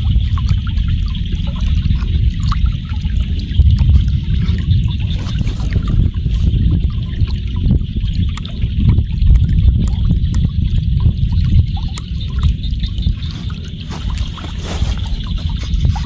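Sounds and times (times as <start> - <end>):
water running and trickling: 0.0 - 16.0
wind rumbling on microphone: 0.0 - 16.0.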